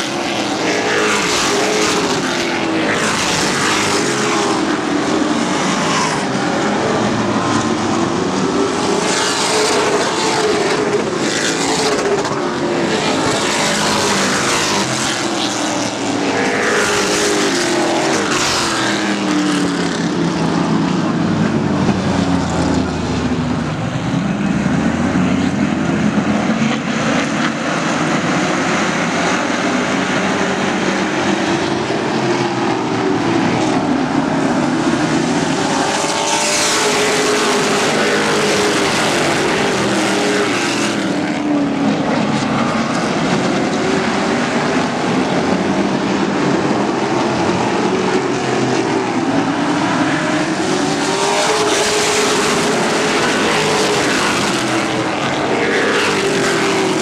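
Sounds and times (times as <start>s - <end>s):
race truck engines racing: 0.0s - 57.0s.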